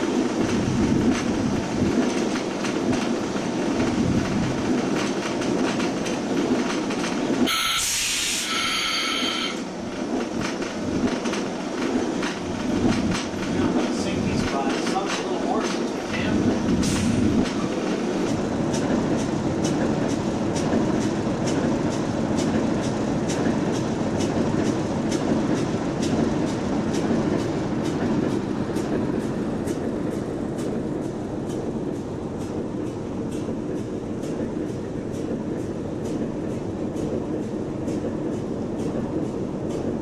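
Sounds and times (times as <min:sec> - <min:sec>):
wheels clicking over rail joints: 0:00.0 - 0:07.5, 0:09.9 - 0:40.0
train wheels rumbling: 0:00.0 - 0:40.0.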